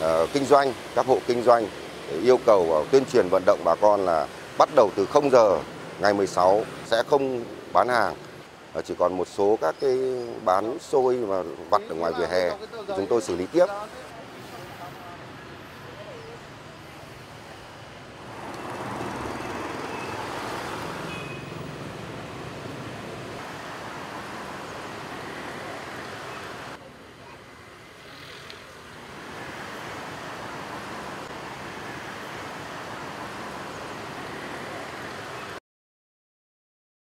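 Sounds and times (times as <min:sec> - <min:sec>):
road traffic hiss: 0:00.0 - 0:35.6.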